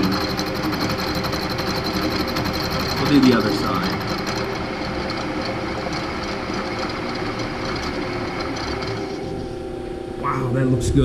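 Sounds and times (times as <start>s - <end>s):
metal cutting noise: 0.0s - 9.7s
milling machine spindle hum: 0.0s - 11.0s.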